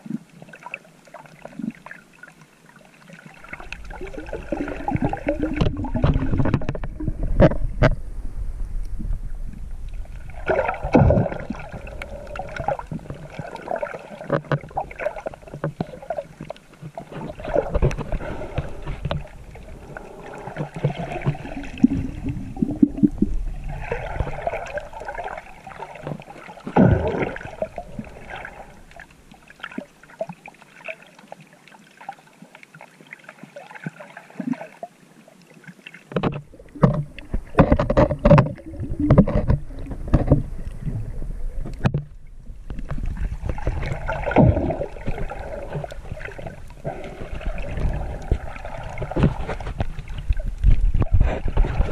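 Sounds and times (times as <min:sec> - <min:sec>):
muffled water sloshing and gurgling: 0:00.0 - 0:51.9.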